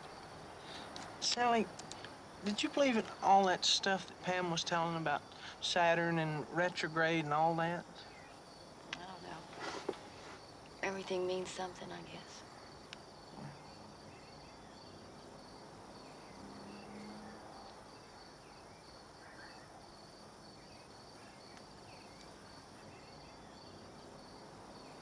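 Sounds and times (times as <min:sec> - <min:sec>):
insects chirping: 0:00.0 - 0:25.0
soft background hiss: 0:00.0 - 0:25.0.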